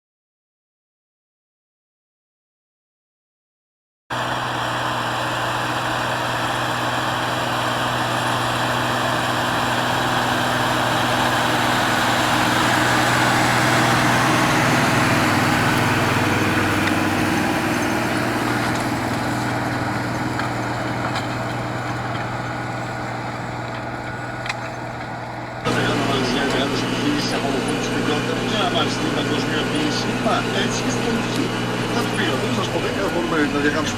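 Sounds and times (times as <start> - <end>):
tractor diesel engine running: 4.1 - 33.9.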